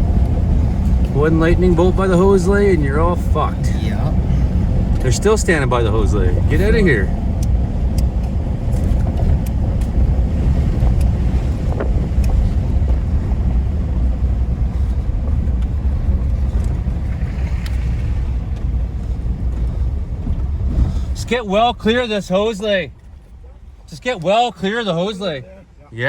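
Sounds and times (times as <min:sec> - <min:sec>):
low rumbling noise: 0:00.0 - 0:26.0.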